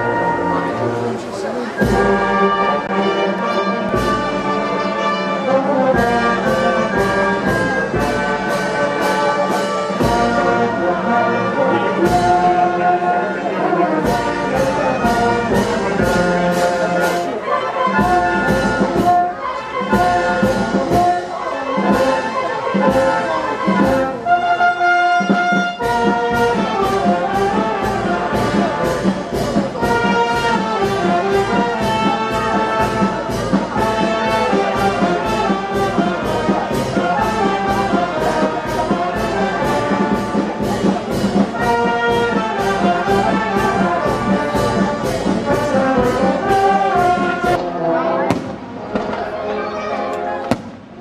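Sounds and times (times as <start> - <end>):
brass band march: 0.0 - 51.0.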